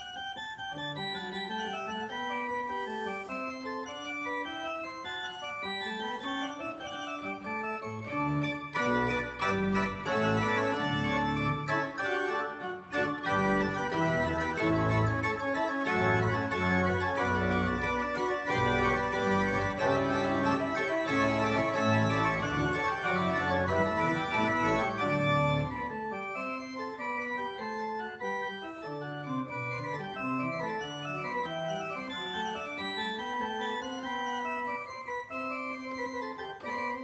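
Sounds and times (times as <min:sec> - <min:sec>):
church organ chords: 0:00.0 - 0:37.0
organ bass line: 0:00.0 - 0:37.0.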